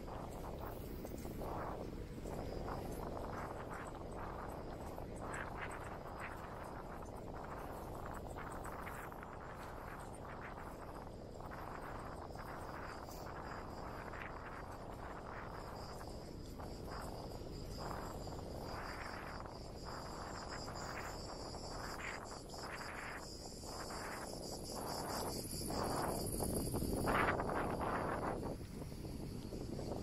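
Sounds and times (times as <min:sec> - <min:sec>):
high-pitched insect chorus: 0:00.0 - 0:30.0
wind buffeting microphone: 0:00.0 - 0:30.0.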